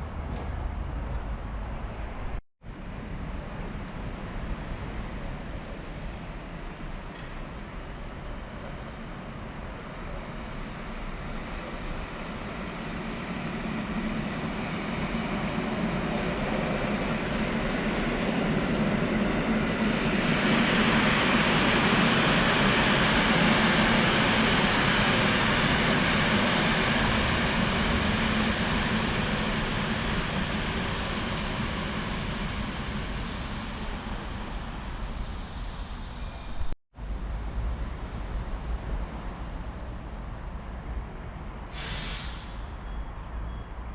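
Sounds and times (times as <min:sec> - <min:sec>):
train passing on tracks: 0:00.0 - 0:43.9.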